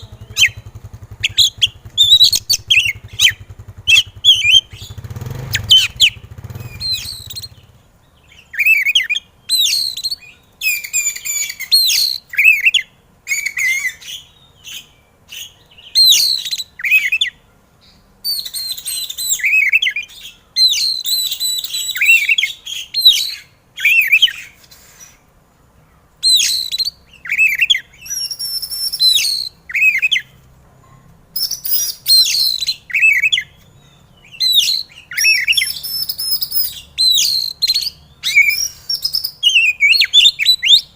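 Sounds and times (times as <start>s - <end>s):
magpie-robin singing: 0.0s - 25.2s, 26.2s - 40.9s.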